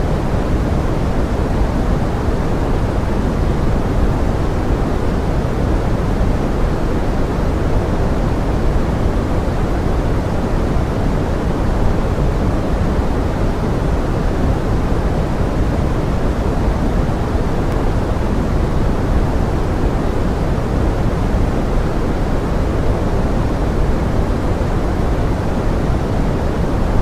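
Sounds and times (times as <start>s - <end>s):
pink noise: 0.0s - 27.0s.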